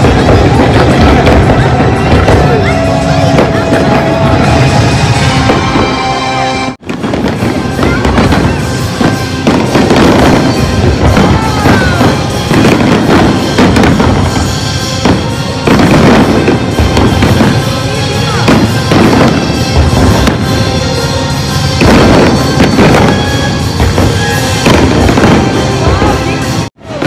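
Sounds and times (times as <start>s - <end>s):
fireworks bursting and crackling: 0.0s - 27.0s
music: 0.0s - 27.0s.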